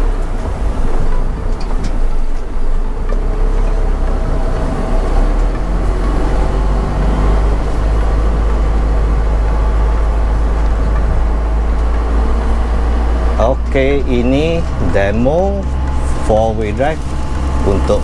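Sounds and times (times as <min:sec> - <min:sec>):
truck diesel engine droning: 0:00.0 - 0:18.0.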